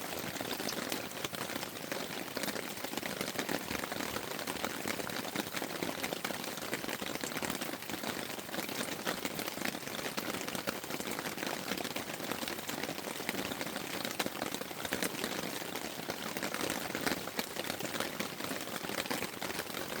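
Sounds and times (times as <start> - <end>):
rain falling on a tent: 0.0 - 20.0.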